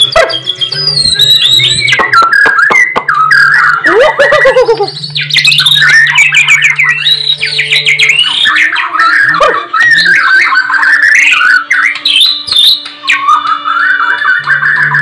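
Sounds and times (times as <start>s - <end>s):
bird singing whistled phrases: 0.0s - 15.0s.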